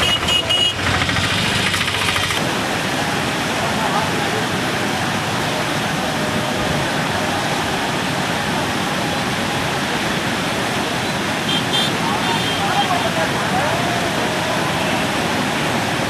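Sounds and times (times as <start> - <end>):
fast churning water rushing: 0.0 - 16.0.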